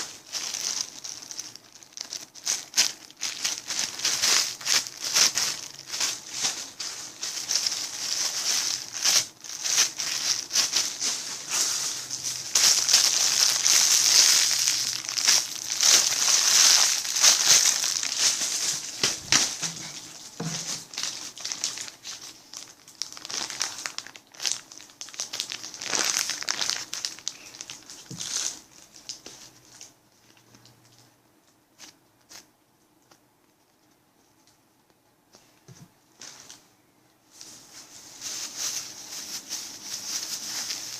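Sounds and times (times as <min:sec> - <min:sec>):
plastic bag crinkling: 0:00.0 - 0:31.0, 0:37.3 - 0:40.9.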